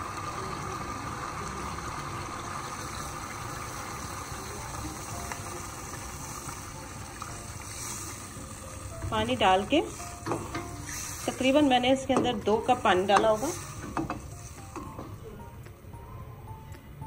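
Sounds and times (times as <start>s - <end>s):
water pouring into a pot: 0.0s - 15.1s.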